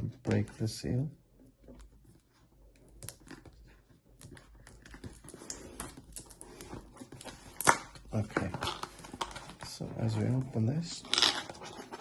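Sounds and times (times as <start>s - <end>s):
faint clicks and scratches: 1.5s - 12.0s.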